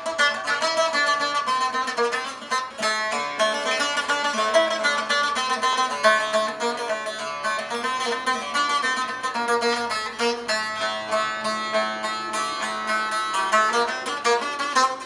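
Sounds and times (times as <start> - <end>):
plucked lute notes: 0.0 - 15.0.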